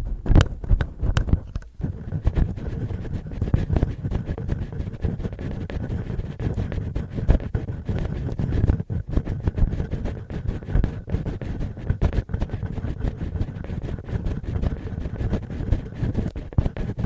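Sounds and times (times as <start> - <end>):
fingers scraping on microphone: 0.0 - 17.0.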